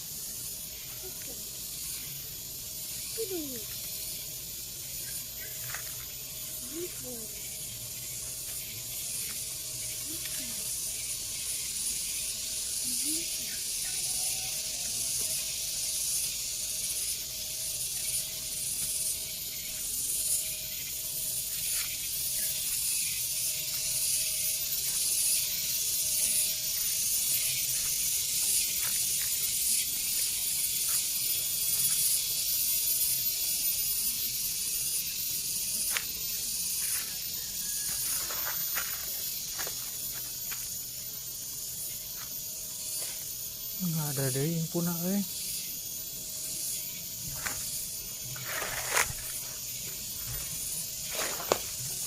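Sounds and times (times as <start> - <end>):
steady high hiss: 0.0 - 52.0.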